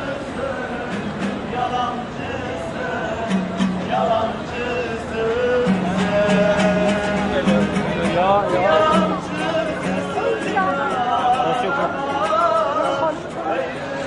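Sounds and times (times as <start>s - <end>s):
person singing: 0.0s - 14.0s
street buskers playing music: 0.0s - 14.0s.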